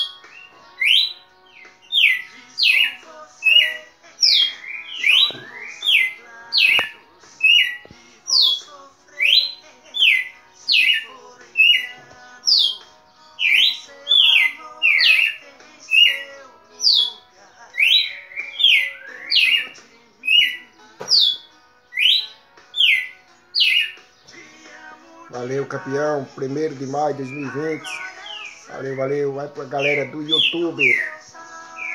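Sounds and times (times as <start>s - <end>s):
bird singing whistled notes: 0.0s - 24.3s, 26.9s - 31.9s.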